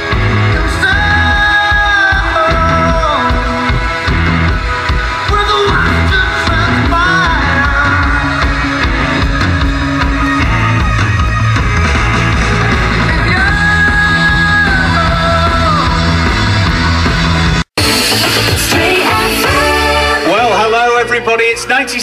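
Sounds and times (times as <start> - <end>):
person singing: 0.0 - 11.4, 12.4 - 17.0, 17.8 - 20.7
loud rock music: 0.0 - 22.0.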